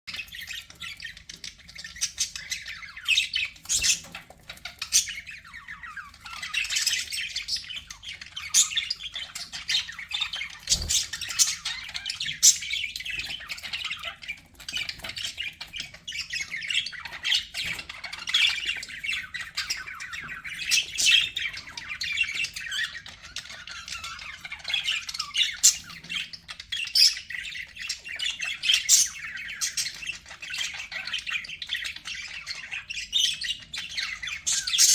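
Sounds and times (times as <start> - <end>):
budgerigars chattering and warbling: 0.1 - 34.9
sharp bird chirps and squawks: 0.1 - 34.9.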